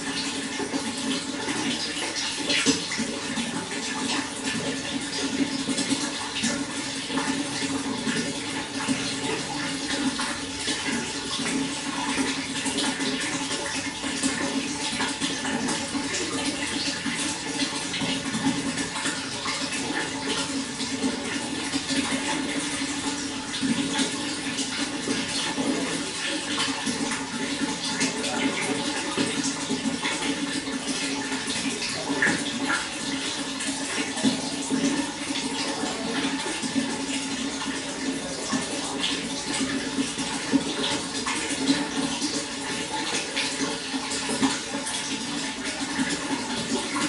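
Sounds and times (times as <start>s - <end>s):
running water: 0.0s - 47.0s.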